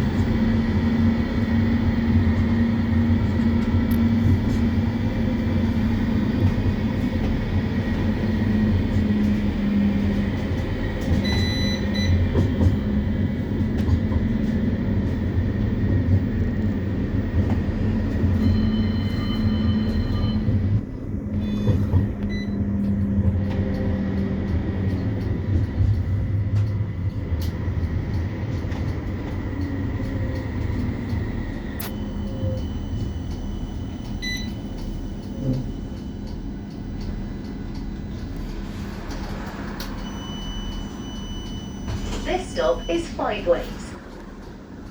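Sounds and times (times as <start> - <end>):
tram motors and wheels rumbling: 0.0 - 44.9.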